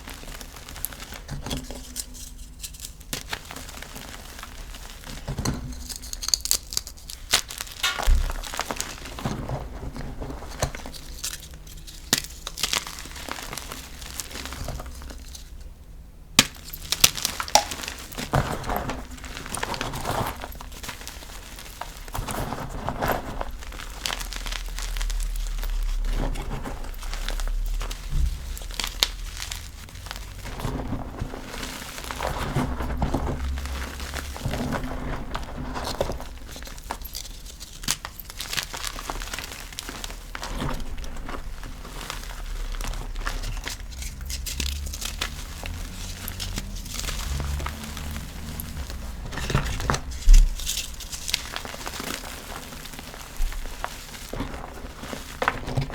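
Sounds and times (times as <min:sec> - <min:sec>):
chalk crushing and crumbling: 0:00.0 - 0:55.9.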